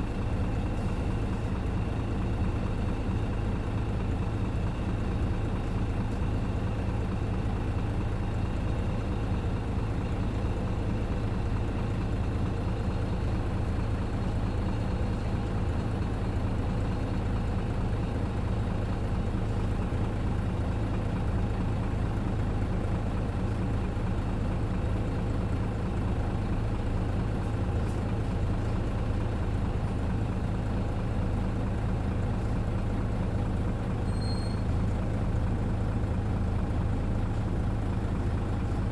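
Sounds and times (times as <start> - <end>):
bus engine running steadily: 0.0 - 38.9.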